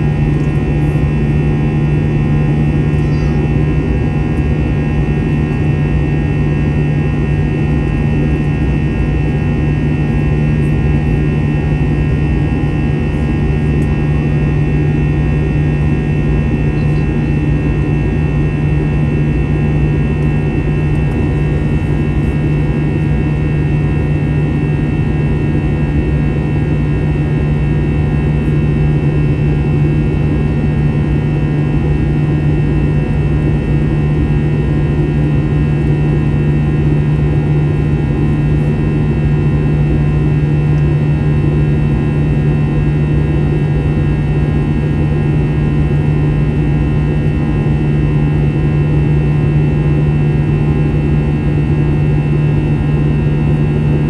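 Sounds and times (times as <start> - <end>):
jet engine cabin noise: 0.0 - 54.0.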